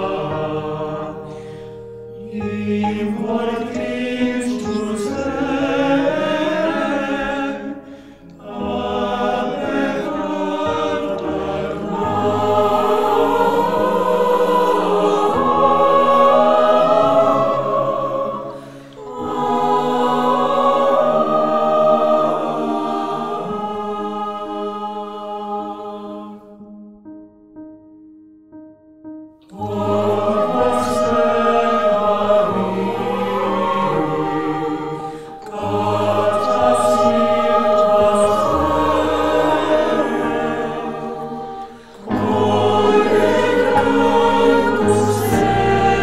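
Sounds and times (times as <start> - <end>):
mixed choir singing a lullaby: 0.0 - 26.8, 29.5 - 46.0
men's voices singing: 2.2 - 26.4, 29.6 - 46.0.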